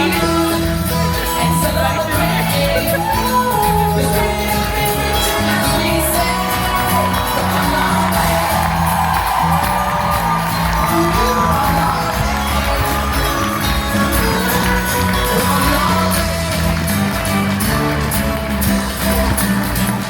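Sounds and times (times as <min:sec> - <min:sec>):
person singing: 0:00.0 - 0:19.2
crowd shouting and whooping: 0:00.0 - 0:20.0
upbeat music with bass line: 0:00.0 - 0:20.0.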